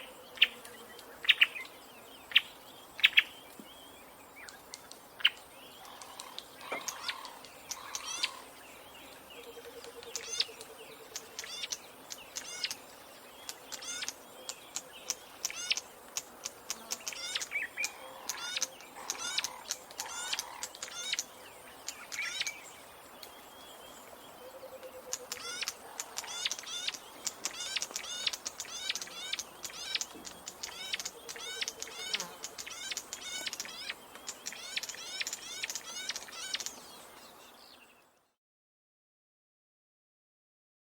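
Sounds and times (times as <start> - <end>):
birds chirping: 0.0 - 38.4.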